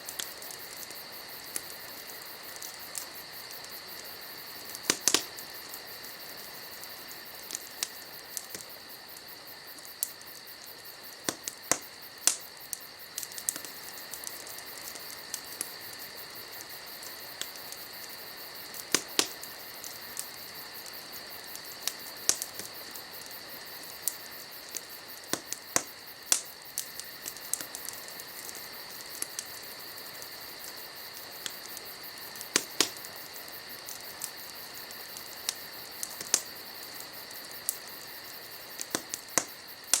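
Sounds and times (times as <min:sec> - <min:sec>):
night insects trilling: 0:00.0 - 0:40.0
wood fire crackling: 0:00.0 - 0:40.0.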